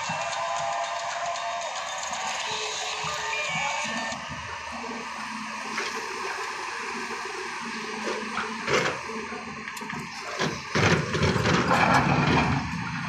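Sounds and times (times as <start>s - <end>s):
excavator engines running: 0.0s - 13.0s.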